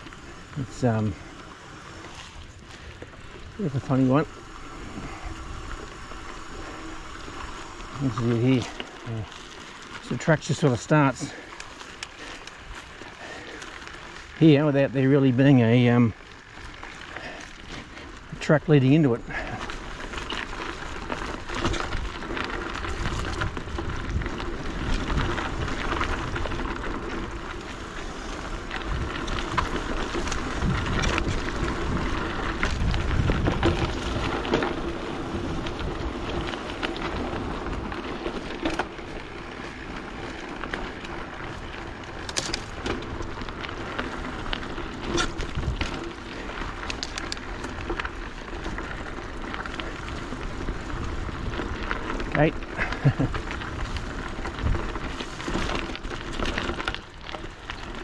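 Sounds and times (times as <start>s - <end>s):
bike clicks and rattles: 0.0s - 58.0s
bike tyres rumbling on dirt: 0.0s - 58.0s.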